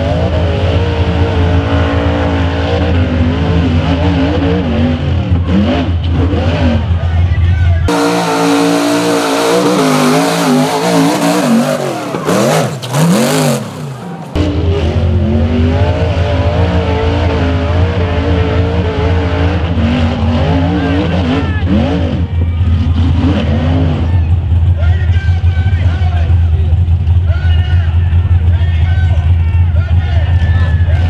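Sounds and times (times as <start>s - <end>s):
buggy engine revving: 0.0s - 31.0s.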